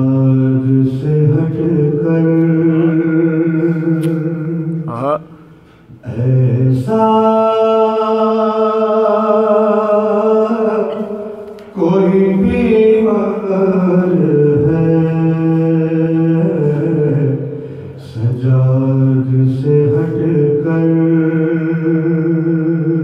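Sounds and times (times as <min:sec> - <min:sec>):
man chanting into microphone: 0:00.0 - 0:05.4, 0:06.0 - 0:23.0.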